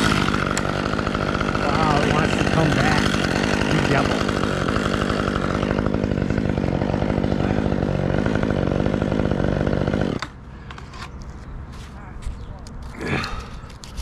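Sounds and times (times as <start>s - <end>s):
chainsaw running: 0.0s - 11.2s, 12.8s - 14.0s.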